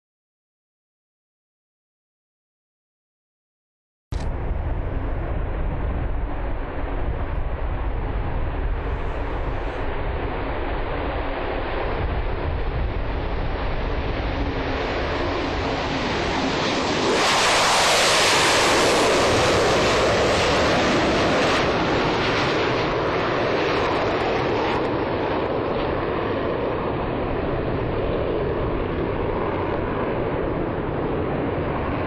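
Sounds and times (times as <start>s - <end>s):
jet engine roaring: 4.2s - 32.0s.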